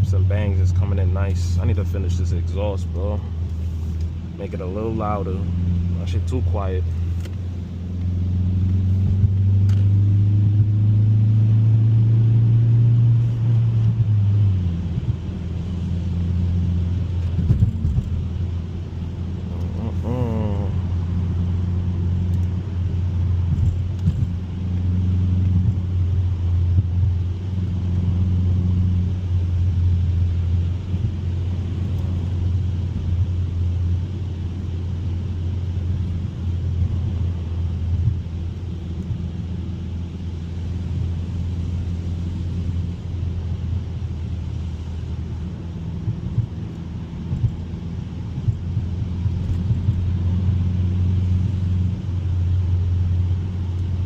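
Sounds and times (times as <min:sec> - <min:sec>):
car engine and tyres droning: 0:00.0 - 0:54.0.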